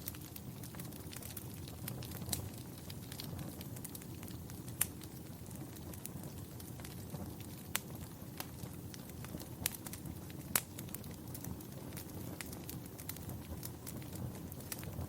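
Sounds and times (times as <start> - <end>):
sharp pops from fire: 0.0 - 15.0
wood fire crackling: 0.0 - 15.0.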